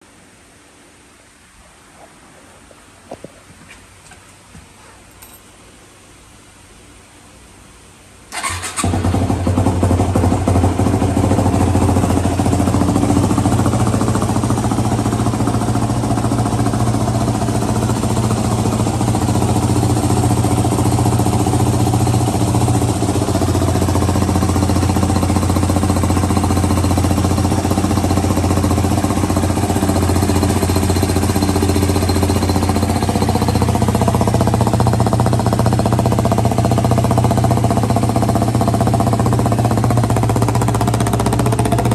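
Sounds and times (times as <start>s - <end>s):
motorcycle engine starting and idling: 8.3s - 41.9s.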